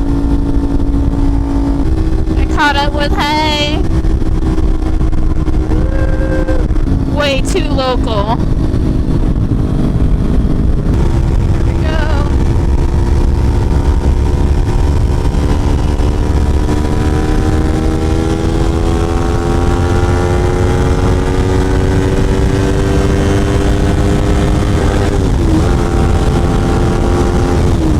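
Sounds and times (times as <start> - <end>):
low wind rumble: 0.0 - 27.9.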